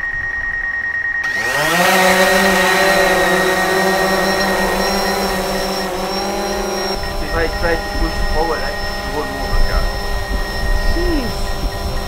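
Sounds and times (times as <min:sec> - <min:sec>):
drone propellers whining: 0:01.2 - 0:12.0.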